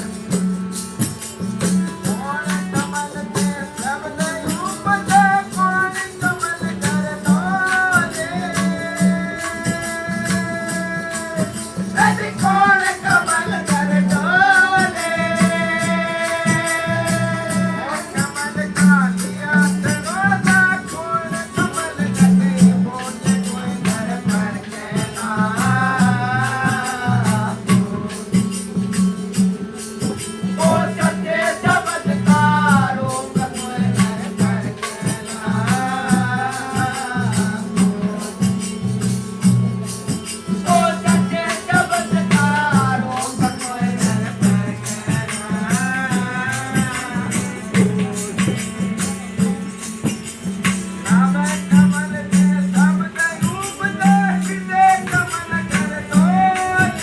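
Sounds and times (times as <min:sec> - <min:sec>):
jingling shaken percussion: 0:00.0 - 0:57.0
lead voice singing: 0:01.6 - 0:29.5, 0:30.1 - 0:38.9, 0:40.5 - 0:49.6, 0:51.0 - 0:57.0.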